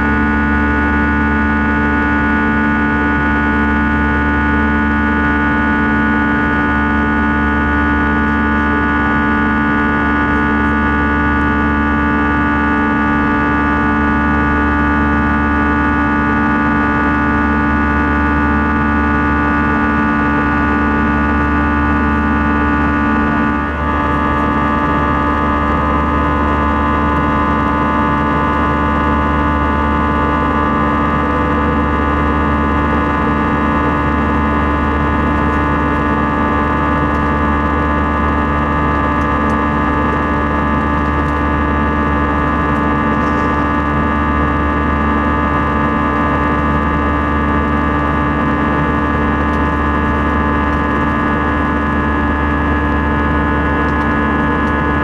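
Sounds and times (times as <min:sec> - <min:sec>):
deep cabin drone: 0:00.0 - 0:55.0
jet engines buzzsaw tones: 0:00.1 - 0:55.0.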